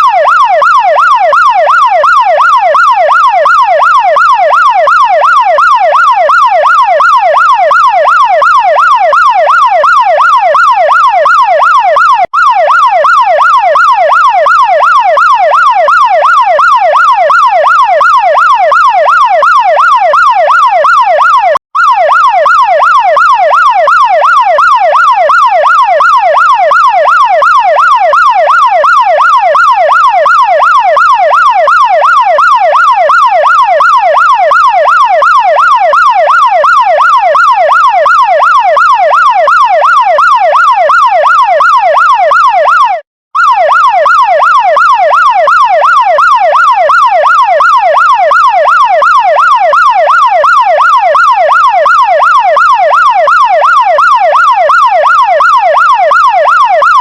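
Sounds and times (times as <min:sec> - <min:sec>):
fire truck siren wailing: 0:00.0 - 0:57.0.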